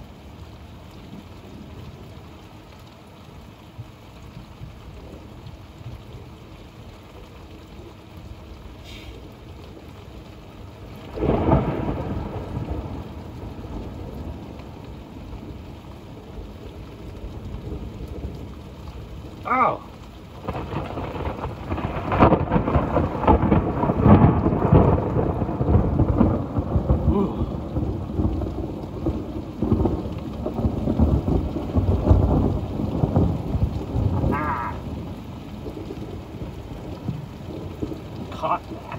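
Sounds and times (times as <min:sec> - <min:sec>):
steady rain falling: 0:00.0 - 0:38.9
thunder rumbling: 0:07.1 - 0:38.9.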